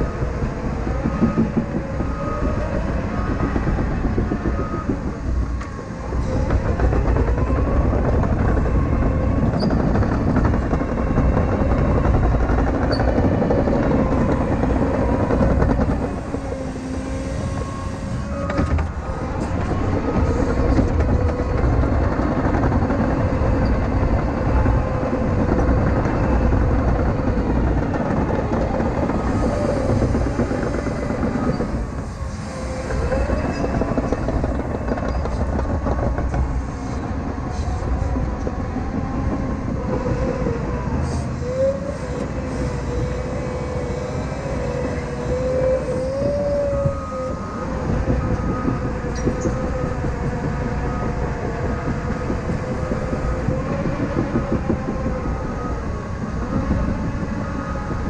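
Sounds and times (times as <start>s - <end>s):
clatter of crawler tracks: 0.0s - 58.0s
diesel engine whining under load: 0.0s - 58.0s.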